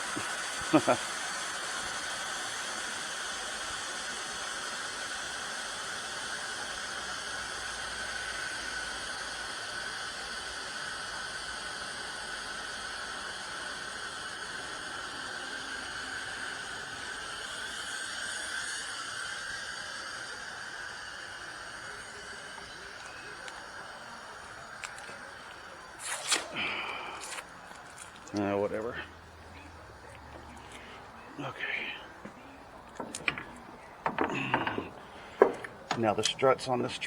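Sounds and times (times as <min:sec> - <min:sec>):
steady background hiss: 0:00.0 - 0:37.0.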